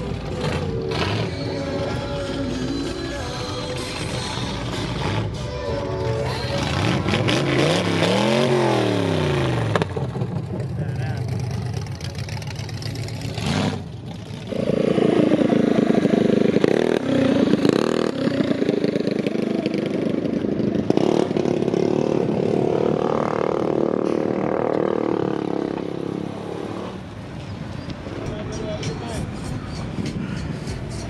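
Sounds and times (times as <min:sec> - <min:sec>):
vehicle engine running: 0:00.0 - 0:26.1.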